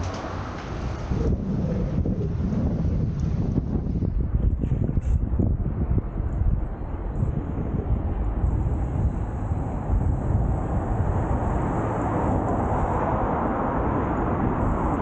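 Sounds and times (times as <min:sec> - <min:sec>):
traffic noise: 0:00.0 - 0:15.0
wind rumbling on microphone: 0:00.0 - 0:15.0.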